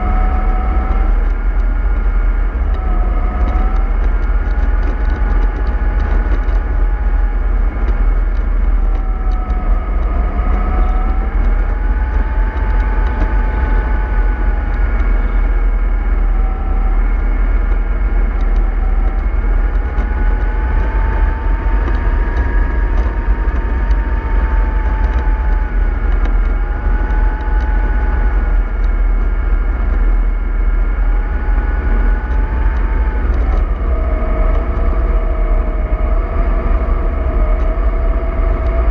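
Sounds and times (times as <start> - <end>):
drivetrain whine: 0.0 - 38.9
low vehicle rumble: 0.0 - 38.9.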